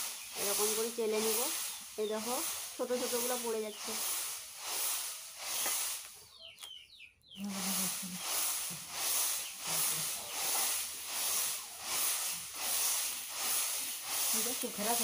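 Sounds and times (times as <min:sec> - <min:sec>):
puffed rice rattling in a sieve: 0:00.0 - 0:06.3, 0:07.4 - 0:15.0.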